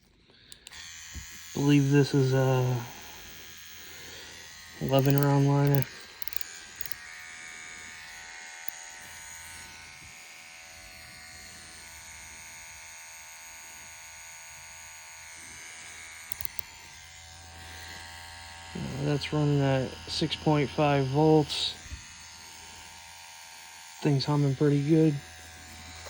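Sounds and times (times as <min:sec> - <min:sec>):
tattoo pen electric hum: 0:00.0 - 0:26.0.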